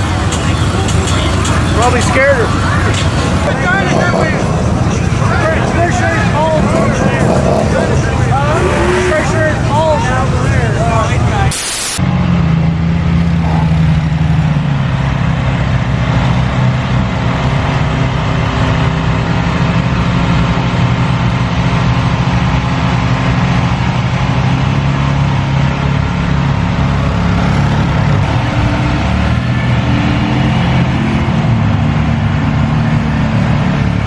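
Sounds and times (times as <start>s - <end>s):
vehicle engine running at low revs: 0.0s - 34.0s.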